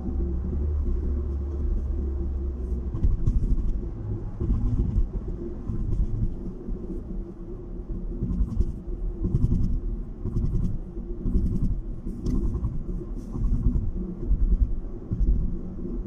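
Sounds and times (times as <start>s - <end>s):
car driving at highway speed: 0.0s - 16.0s
steady hum: 0.0s - 16.0s.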